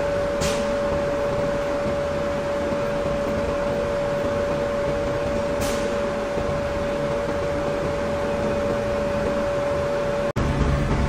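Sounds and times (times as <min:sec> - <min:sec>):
machinery drone with high whine: 0:00.0 - 0:11.0.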